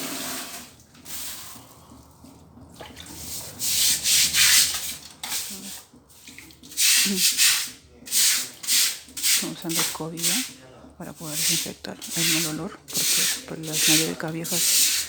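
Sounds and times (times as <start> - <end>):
brush scrubbing wet tiles: 0.0 - 15.0.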